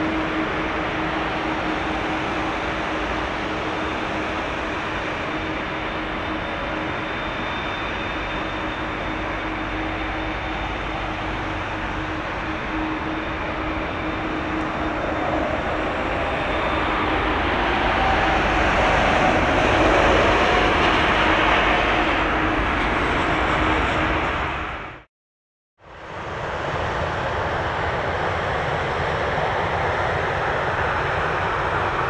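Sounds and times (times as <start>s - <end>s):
jet engines roaring: 0.0s - 25.1s, 26.2s - 32.0s.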